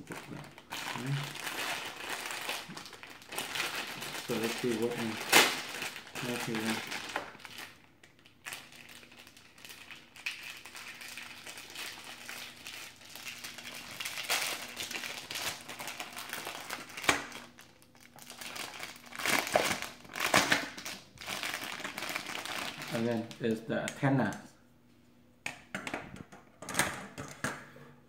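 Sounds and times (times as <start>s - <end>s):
plastic bag crinkling: 0.0s - 23.6s.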